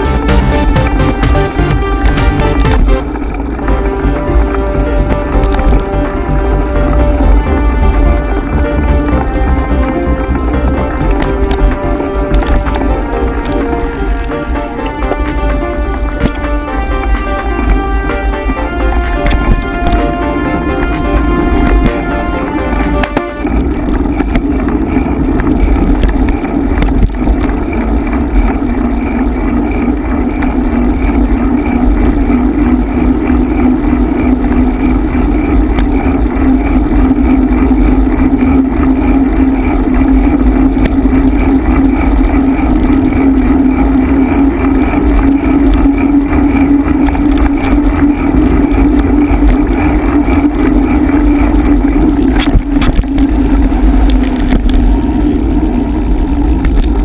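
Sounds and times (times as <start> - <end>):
mountain bike rolling on dirt: 0.0 - 57.0.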